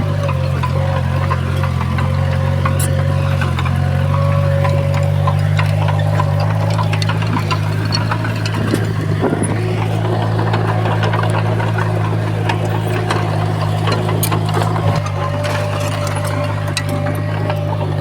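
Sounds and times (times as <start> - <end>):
bulldozer diesel engine running: 0.0 - 18.0
metallic clicks and clanks: 0.0 - 18.0.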